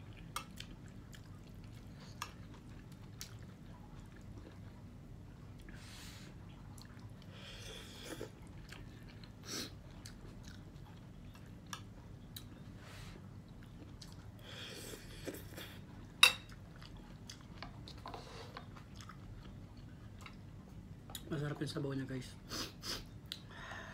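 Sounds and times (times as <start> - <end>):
person chewing food: 0.0 - 21.3.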